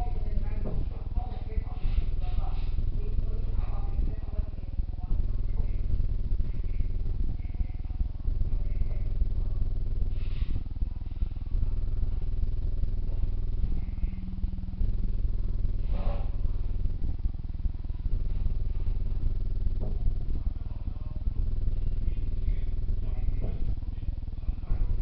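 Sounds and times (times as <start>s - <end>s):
motor rumbling with flutter: 0.0s - 25.0s.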